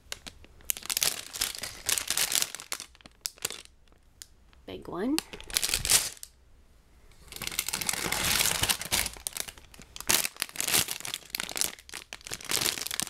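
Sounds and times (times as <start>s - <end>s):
plastic bags crinkling: 0.0s - 4.1s, 5.1s - 6.3s, 7.3s - 13.0s.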